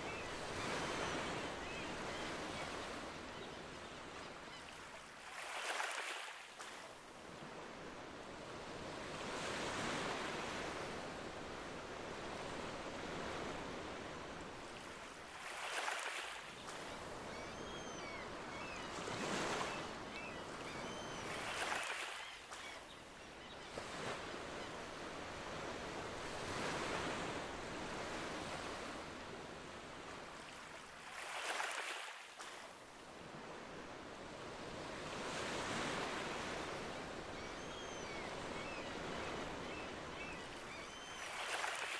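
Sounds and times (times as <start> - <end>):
ocean waves lapping on shore: 0.0 - 17.3, 18.3 - 22.9, 23.7 - 37.5, 38.1 - 41.9.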